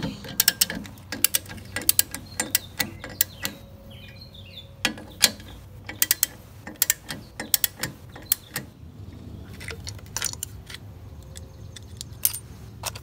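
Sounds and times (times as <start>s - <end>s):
metallic clicks of tools and bolts: 0.0s - 13.0s.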